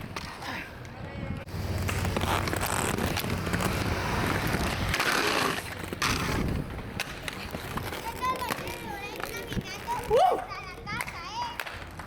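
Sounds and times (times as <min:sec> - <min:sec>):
skate wheels rolling on pavement: 0:00.0 - 0:12.0.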